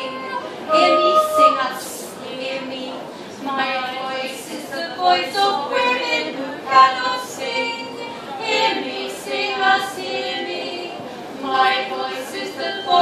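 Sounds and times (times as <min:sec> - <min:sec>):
women singing a cappella: 0:00.0 - 0:13.0.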